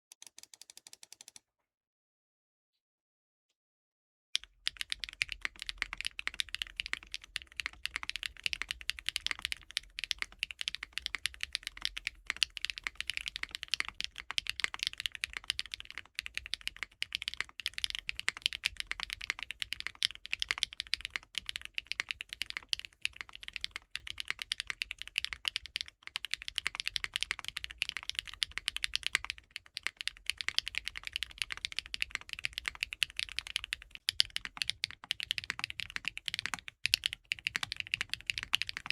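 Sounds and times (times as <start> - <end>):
mechanical keyboard typing: 4.4 - 38.9.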